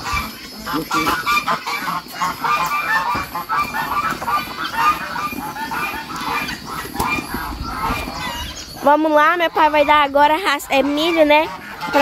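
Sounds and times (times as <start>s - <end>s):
flock of poultry calling: 0.0s - 12.0s.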